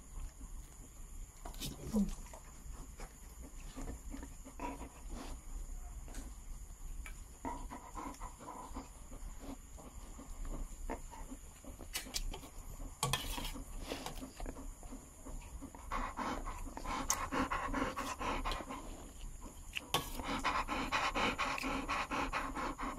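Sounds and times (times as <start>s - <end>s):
dog panting: 2.3s - 6.4s, 7.3s - 22.9s.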